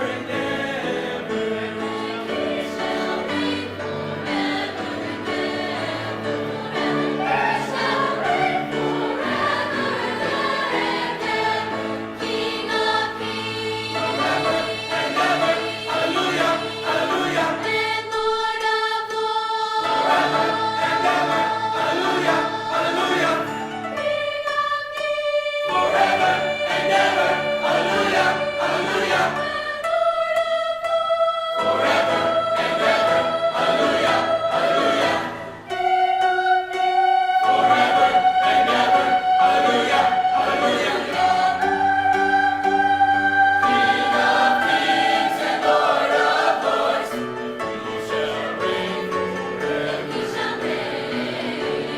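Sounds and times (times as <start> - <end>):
choir singing with accompaniment: 0.0 - 51.9.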